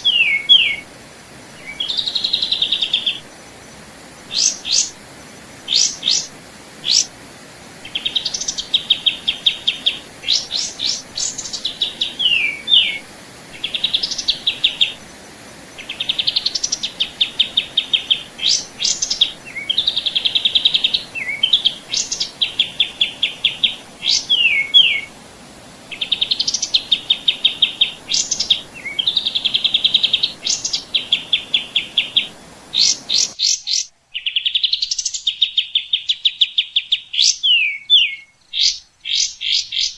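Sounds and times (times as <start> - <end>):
faint steady hiss: 0.0 - 39.9
songbird singing with trill: 0.0 - 39.9.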